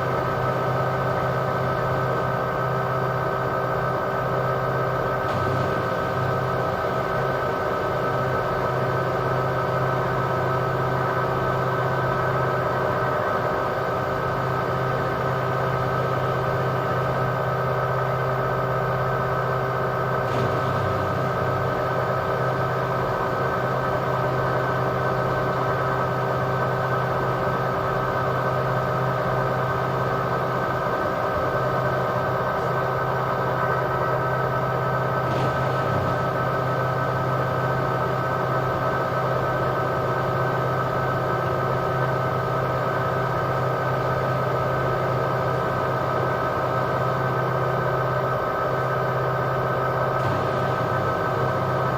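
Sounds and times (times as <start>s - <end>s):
washing machine spinning: 0.0s - 51.9s.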